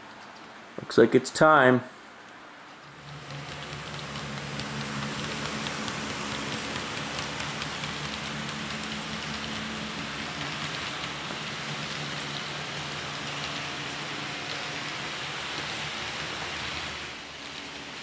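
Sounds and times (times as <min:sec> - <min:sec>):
model train wheels rolling on rails: 0:02.3 - 0:18.0
ticking from rail joints: 0:02.6 - 0:17.8.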